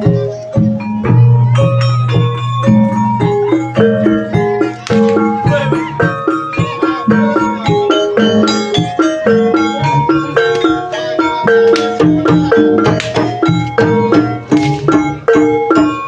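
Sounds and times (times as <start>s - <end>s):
struck keyed instruments melody: 0.0s - 16.0s.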